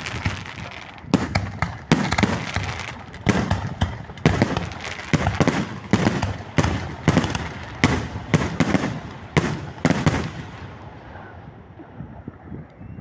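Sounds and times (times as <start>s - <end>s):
fireworks sharp bangs: 0.0s - 11.4s
fireworks rumble: 0.0s - 12.7s.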